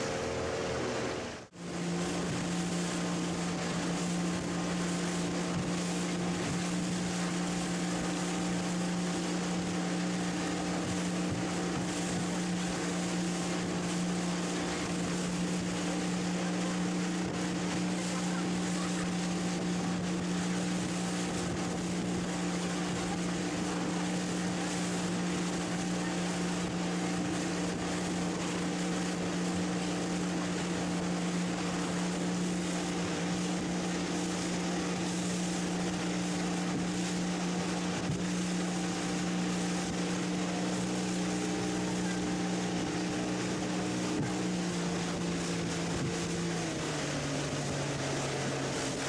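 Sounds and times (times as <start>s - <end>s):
motorboat engine running: 0.0s - 49.0s
rushing water: 0.0s - 49.0s
wind: 0.0s - 49.0s.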